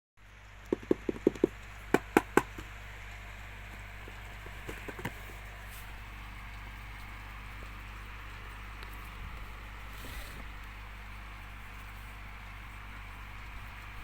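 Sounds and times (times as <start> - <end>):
steady hum: 0.2 - 14.0
light clicks of table fan: 0.6 - 14.0.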